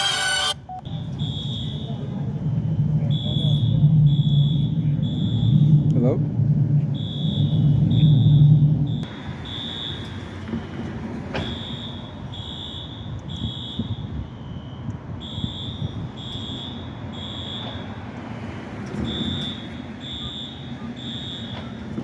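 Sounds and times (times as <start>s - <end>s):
pulsing electronic fire alarm: 0.0s - 5.8s, 6.9s - 10.4s, 11.3s - 18.1s, 19.0s - 22.0s.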